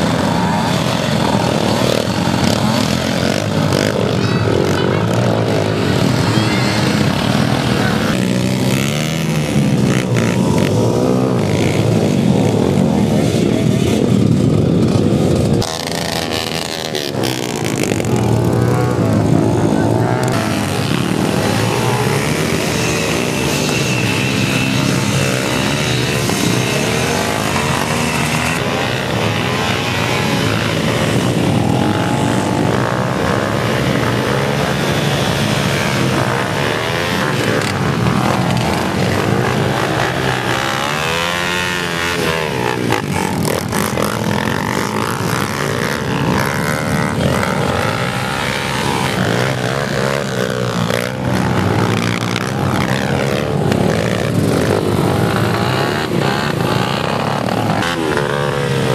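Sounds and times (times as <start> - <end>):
dirt bike engines revving: 0.0 - 58.9
wheels spinning in mud: 0.0 - 58.9.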